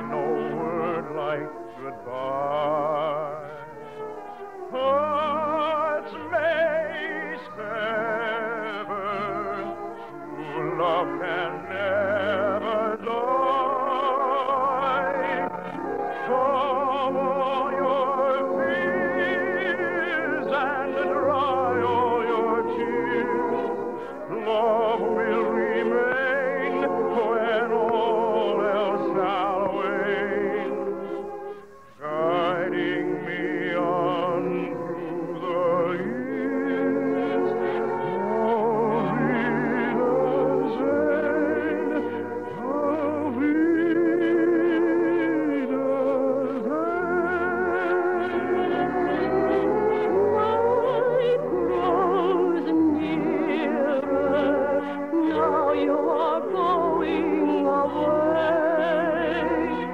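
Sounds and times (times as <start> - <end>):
operatic singing: 0.0 - 59.9
orchestral accompaniment: 0.0 - 59.9.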